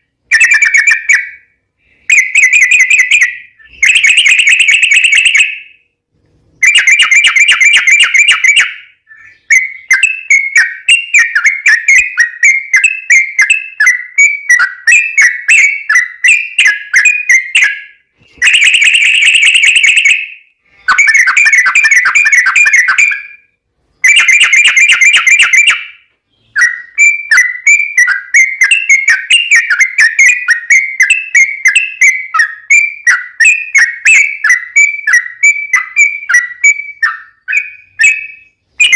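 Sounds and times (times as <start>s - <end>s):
bird song with rattling and chirping: 0.0s - 38.9s.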